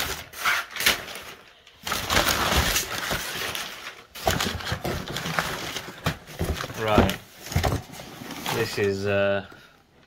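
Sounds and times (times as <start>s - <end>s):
packing paper rustling: 0.0s - 9.2s.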